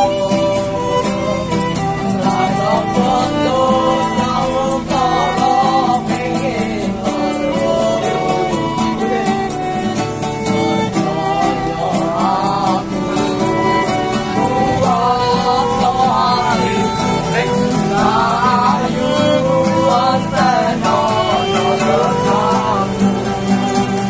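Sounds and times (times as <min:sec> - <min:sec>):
strummed acoustic guitar: 0:00.0 - 0:24.0
violin melody: 0:00.0 - 0:24.0
young men singing: 0:00.0 - 0:24.0.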